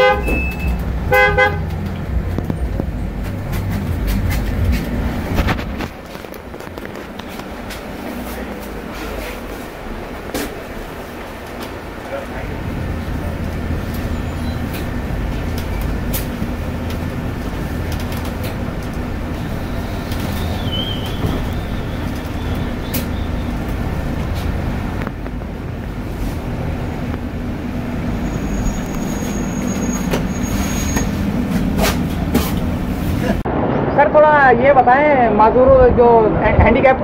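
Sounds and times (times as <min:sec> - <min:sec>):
bus cabin rumble and hum: 0:00.0 - 0:34.3.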